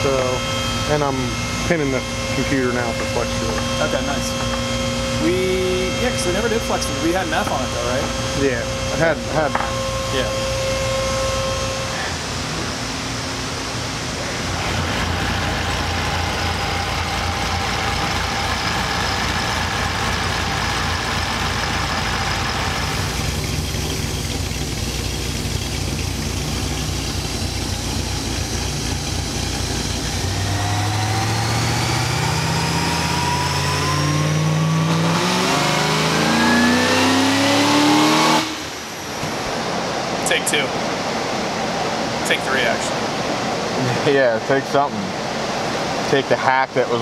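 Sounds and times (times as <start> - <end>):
car engine revving: 0.0 - 43.7.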